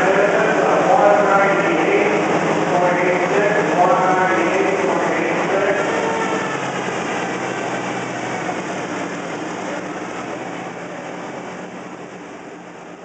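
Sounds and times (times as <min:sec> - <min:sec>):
arena crowd noise: 0:00.0 - 0:13.0
tractor engine running: 0:00.0 - 0:13.0.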